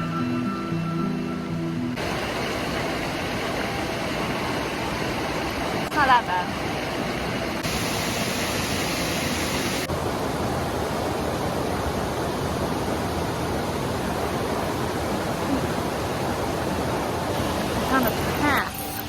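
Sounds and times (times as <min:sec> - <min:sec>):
waterfall rushing: 0:02.0 - 0:19.0.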